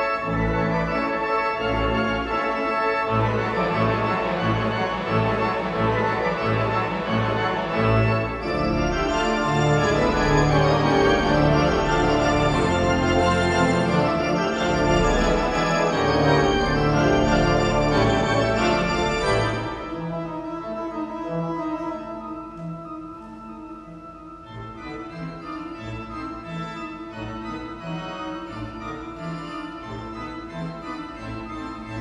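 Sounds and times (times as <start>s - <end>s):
pipe organ chords: 0.0s - 32.0s.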